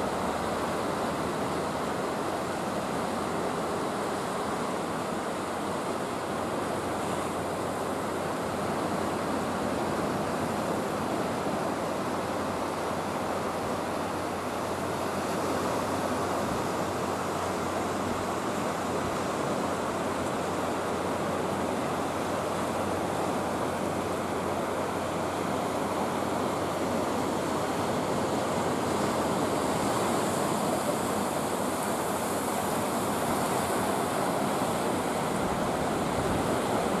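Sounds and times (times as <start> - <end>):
sea surf washing over rocks: 0.0 - 37.0.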